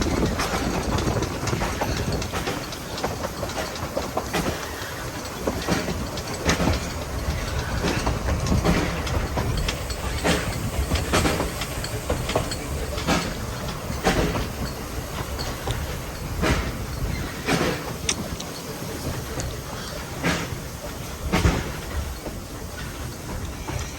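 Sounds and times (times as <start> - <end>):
train rumbling on track: 0.0 - 23.9
wheels clicking over rail joints: 0.0 - 23.9.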